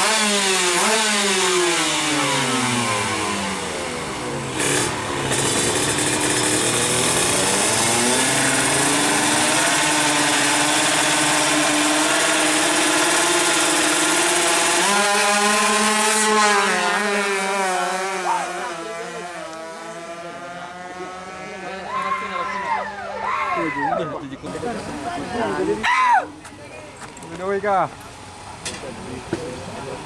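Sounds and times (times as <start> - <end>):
two-stroke drag bike engines revving: 0.0 - 25.8, 27.0 - 30.0.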